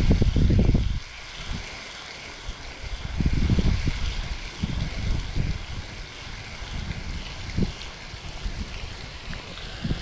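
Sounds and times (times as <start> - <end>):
steady hiss: 0.0 - 10.0
wind buffeting microphone: 0.0 - 10.0.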